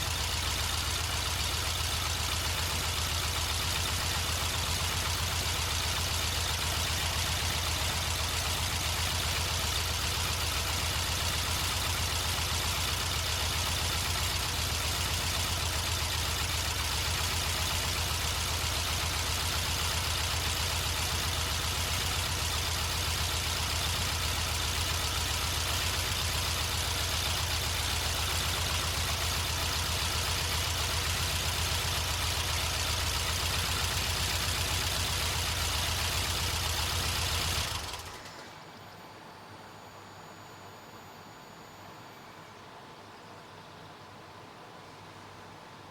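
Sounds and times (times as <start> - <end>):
car engine idling: 0.0 - 42.6.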